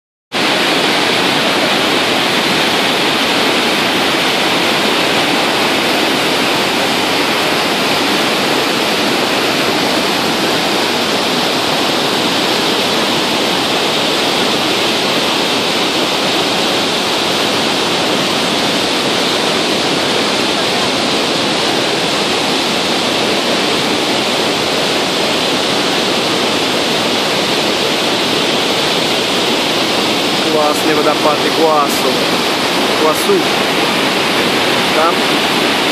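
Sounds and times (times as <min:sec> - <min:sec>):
waterfall rushing: 0:00.4 - 0:35.9.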